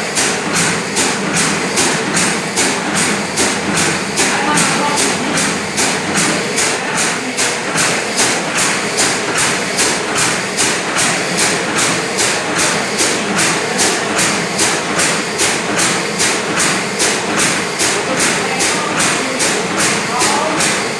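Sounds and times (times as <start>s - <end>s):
filling machine noisy strokes: 0.0s - 20.9s.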